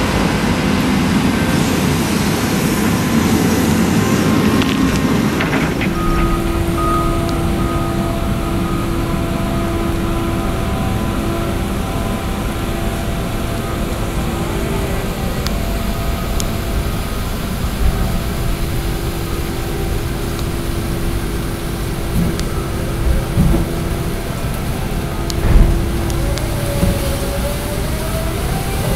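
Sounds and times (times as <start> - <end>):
constant whine: 0.0 - 28.9
crane diesel engine rumbling: 0.0 - 28.9.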